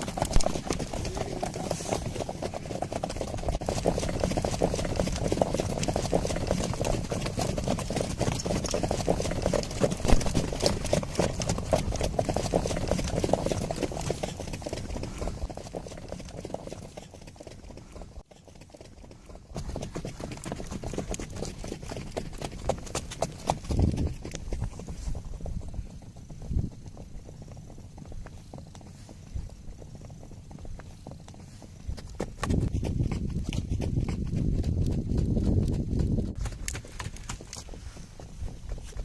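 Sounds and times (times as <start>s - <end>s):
clatter of horse hooves: 0.0s - 39.0s.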